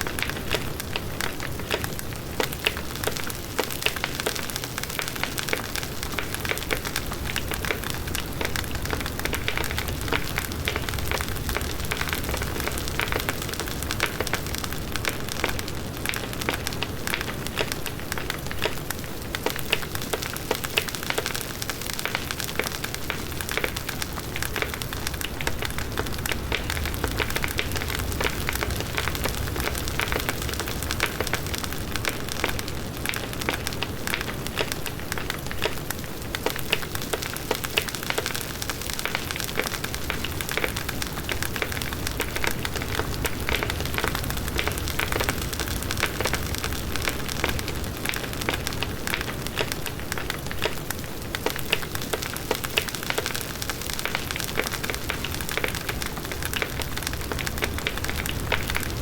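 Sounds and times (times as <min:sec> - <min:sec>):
wood crackling: 0:00.0 - 0:59.0
flames rumbling: 0:00.2 - 0:59.0.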